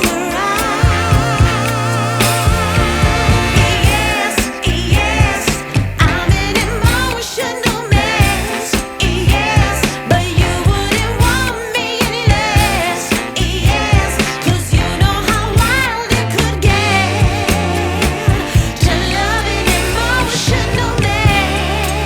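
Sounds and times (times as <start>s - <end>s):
steady beat and bass: 0.0s - 7.2s, 8.0s - 11.6s, 12.3s - 22.0s
pop song with sung vocal: 0.0s - 22.0s.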